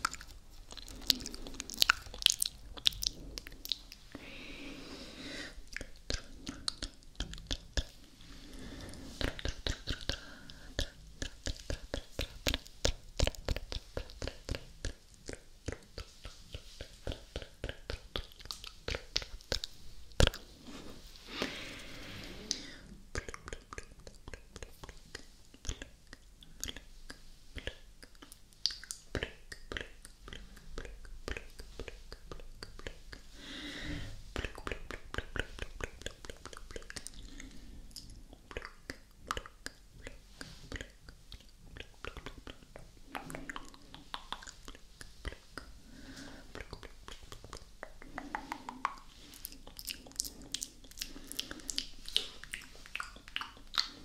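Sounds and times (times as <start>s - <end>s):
wet mouth clicks and pops: 0.0s - 4.0s, 5.7s - 8.0s, 10.8s - 20.4s, 22.5s - 33.3s, 34.4s - 37.2s, 37.9s - 45.8s, 46.5s - 54.0s
soft rush of noise: 0.0s - 54.0s.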